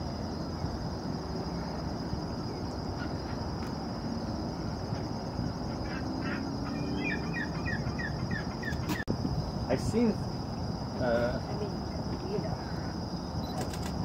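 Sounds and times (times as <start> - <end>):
high insect trill: 0.0 - 14.0
wind rumble: 0.0 - 14.0.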